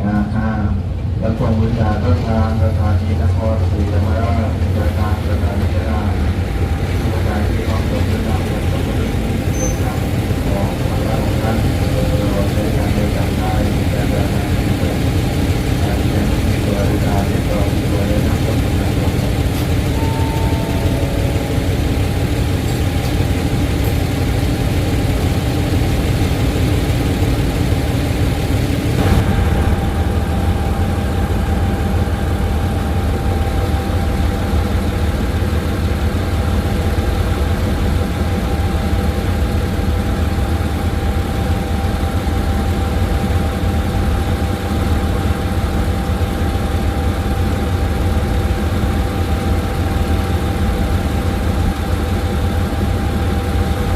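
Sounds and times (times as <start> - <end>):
diesel train engine rumbling: 0.0 - 53.9.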